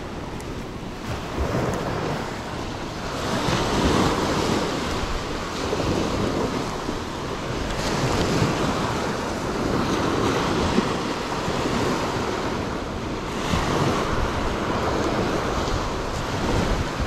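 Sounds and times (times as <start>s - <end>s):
ocean surf on beach: 0.0s - 17.0s
wind rumbling on microphone: 0.0s - 17.0s.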